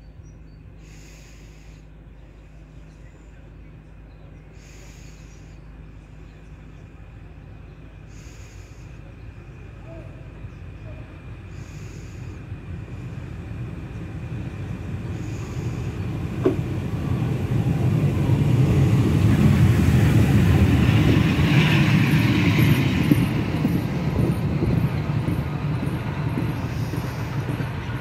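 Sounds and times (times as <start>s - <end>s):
locomotive hiss: 0.8s - 3.6s, 4.5s - 7.2s, 7.8s - 28.0s
steam locomotive rumbling past: 4.4s - 28.0s.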